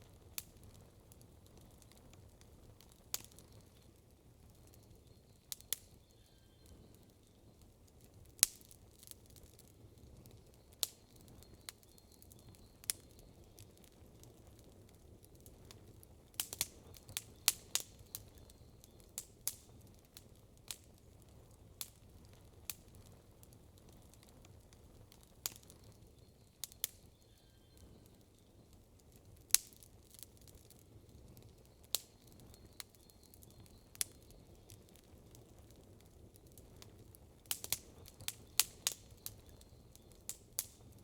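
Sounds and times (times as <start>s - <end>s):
campfire pops and snaps: 0.0s - 4.9s, 5.5s - 6.0s, 6.9s - 27.2s, 28.3s - 41.0s.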